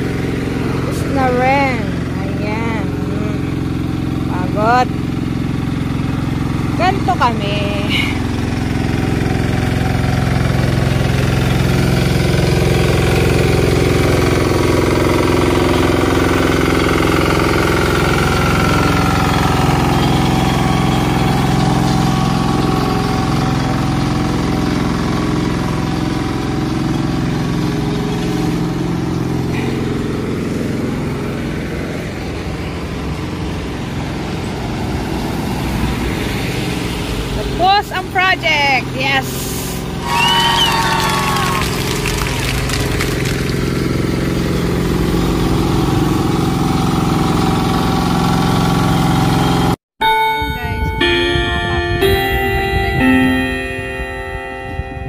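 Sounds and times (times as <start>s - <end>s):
asphalt roller engine running: 0.0s - 55.0s.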